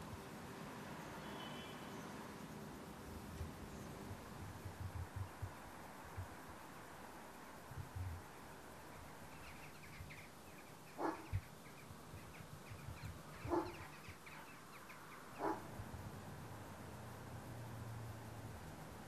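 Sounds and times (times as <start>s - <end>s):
birds chirping overhead: 0.0s - 6.8s, 7.8s - 17.0s.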